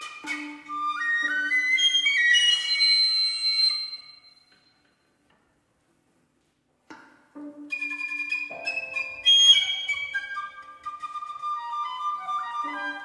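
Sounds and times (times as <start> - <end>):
flute and chamber instruments: 0.0 - 5.0, 7.3 - 13.0.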